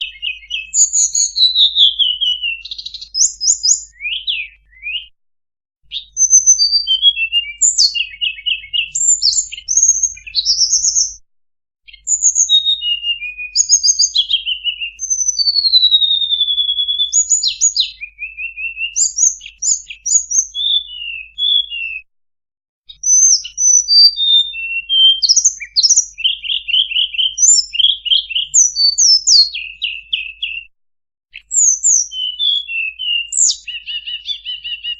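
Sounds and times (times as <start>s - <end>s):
bird song lure call: 0.0s - 5.1s, 5.8s - 11.2s, 11.8s - 22.0s, 22.9s - 30.7s, 31.3s - 34.9s.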